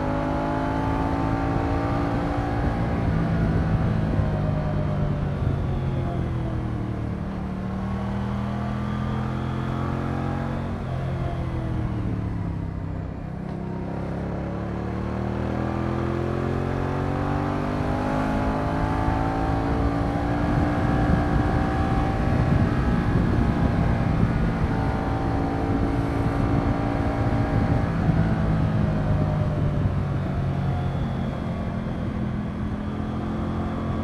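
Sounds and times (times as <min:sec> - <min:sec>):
motorcycle engine accelerating: 0:00.0 - 0:34.0
road rumble: 0:00.0 - 0:34.0
wind: 0:00.0 - 0:34.0.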